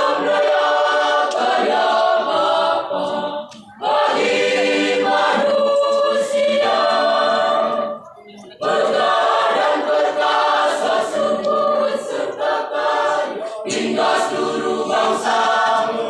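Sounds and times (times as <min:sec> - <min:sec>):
youth choir singing: 0:00.0 - 0:16.0.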